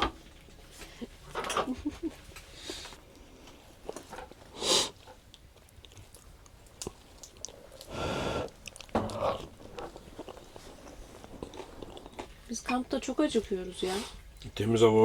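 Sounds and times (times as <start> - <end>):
people chewing: 0.3 - 14.6.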